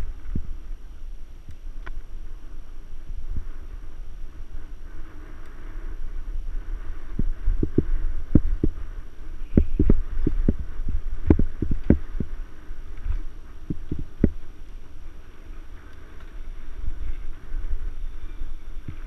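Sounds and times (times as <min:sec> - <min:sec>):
low rumble of wind and vibration: 0:00.0 - 0:19.0.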